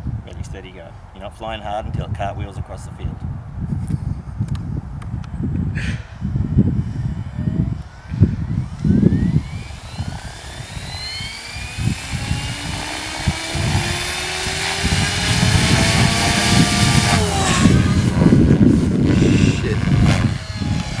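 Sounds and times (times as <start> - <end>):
wind buffeting microphone: 0.0 - 21.0
rc helicopter motor and rotor whine: 3.8 - 21.0.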